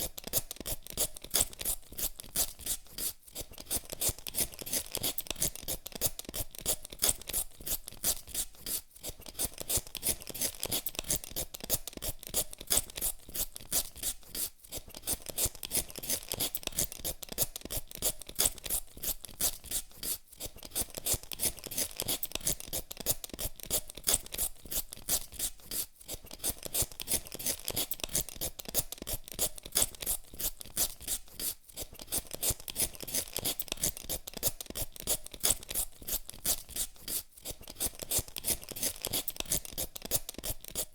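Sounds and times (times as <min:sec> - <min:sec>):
peeler scraping potato skin: 0:00.0 - 0:40.9.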